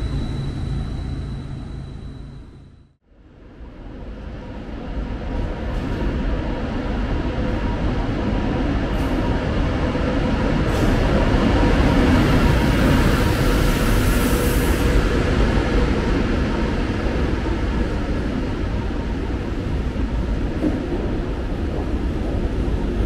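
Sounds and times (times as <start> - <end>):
train rolling past: 0.0 - 23.0.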